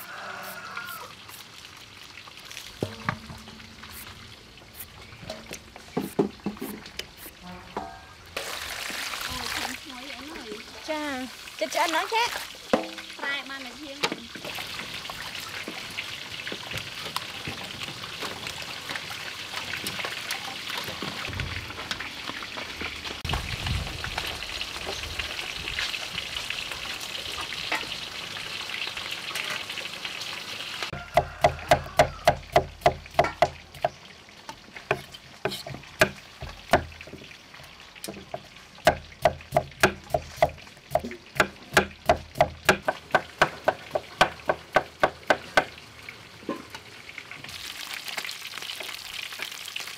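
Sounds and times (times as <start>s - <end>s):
fish deep-frying in oil: 0.0s - 7.4s, 8.2s - 49.9s.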